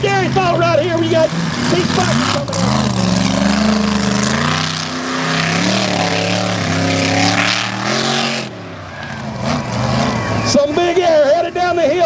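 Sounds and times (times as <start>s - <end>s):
truck engine revving: 0.0s - 11.1s.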